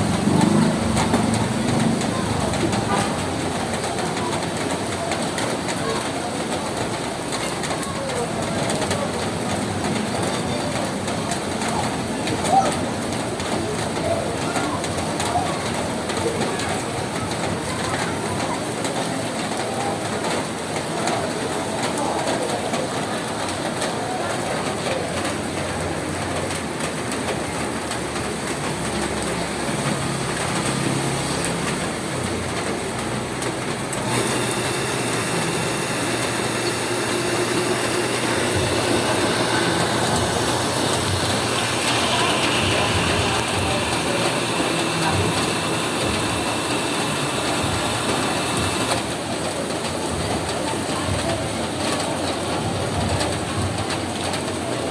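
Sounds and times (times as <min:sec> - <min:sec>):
rain pattering on a roof: 0:00.0 - 0:54.9.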